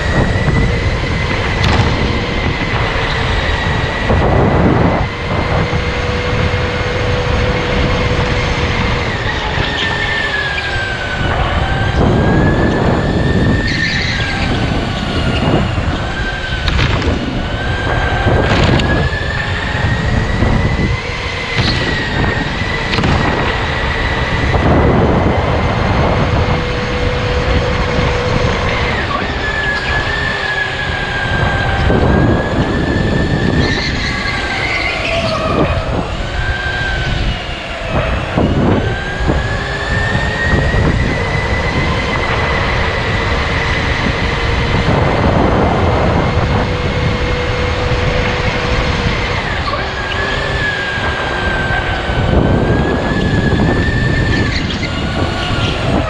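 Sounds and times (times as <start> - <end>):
electric go-kart motor whining: 0.0 - 56.0
loud steady rushing noise: 0.0 - 56.0.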